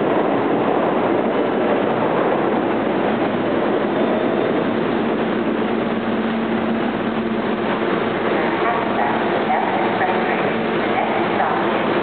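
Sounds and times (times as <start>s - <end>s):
subway train slowing to a stop: 0.0s - 12.0s
steady low hum: 1.3s - 12.0s.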